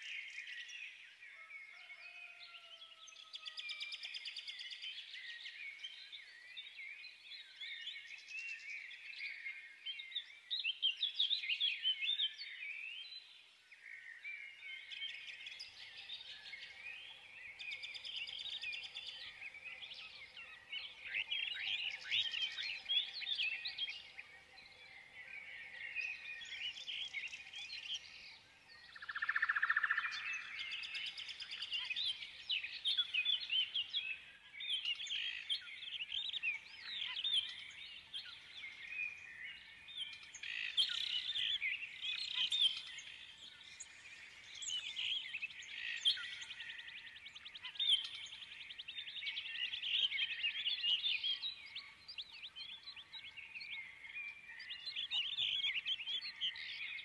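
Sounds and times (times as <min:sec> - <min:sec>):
songbirds chirping and twittering: 0:00.0 - 0:57.0.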